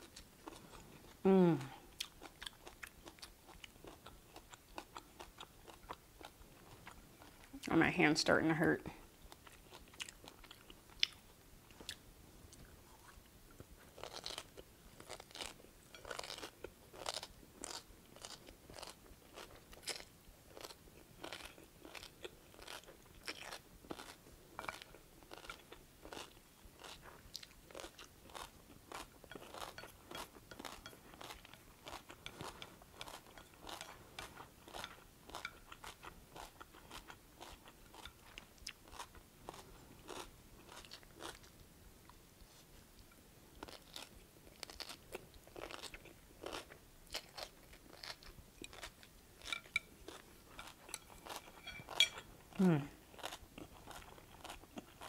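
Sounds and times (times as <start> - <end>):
person chewing crunchy food: 0.0 - 7.7, 9.2 - 55.0.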